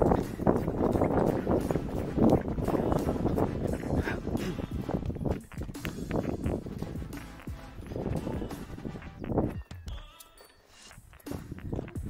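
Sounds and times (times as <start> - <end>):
footsteps on dirt trail: 0.0 - 12.0.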